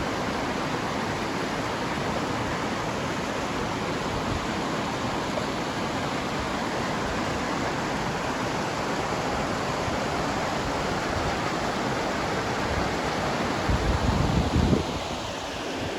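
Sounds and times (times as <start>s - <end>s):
pink noise hiss: 0.0s - 15.9s.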